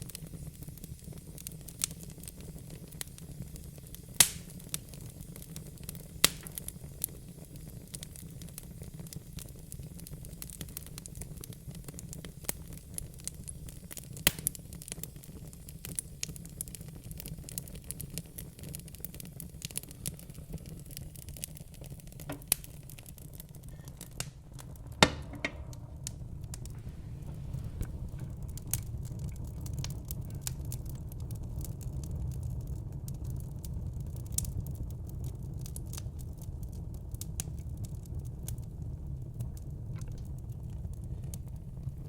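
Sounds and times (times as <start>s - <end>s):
fire crackling: 0.0s - 42.0s
loud fire pops: 0.0s - 42.0s
low rumble of flames: 0.0s - 42.0s.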